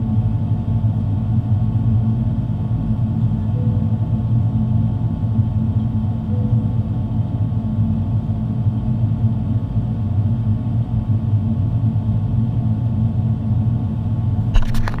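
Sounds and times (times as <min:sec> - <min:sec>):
aircraft cabin engine drone: 0:00.0 - 0:15.0.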